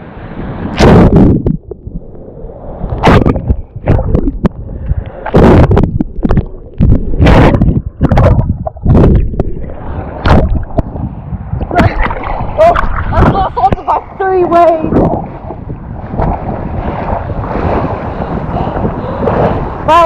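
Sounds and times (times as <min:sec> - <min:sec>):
water splashing and churning: 0:00.0 - 0:20.0.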